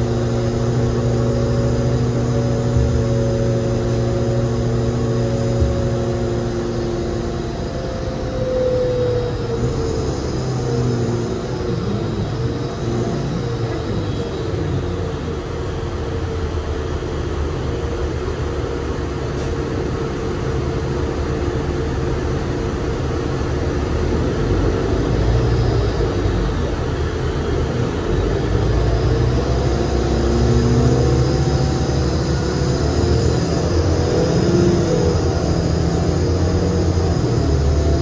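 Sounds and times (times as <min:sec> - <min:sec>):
bus diesel engine droning: 0:00.0 - 0:38.0.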